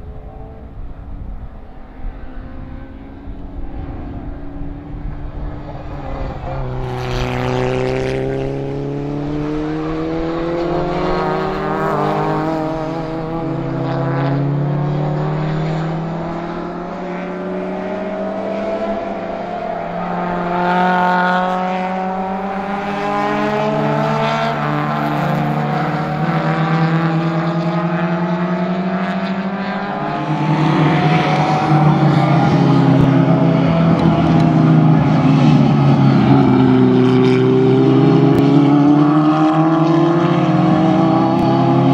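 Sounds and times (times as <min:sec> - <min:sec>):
racing car engines accelerating: 0:00.0 - 0:41.9.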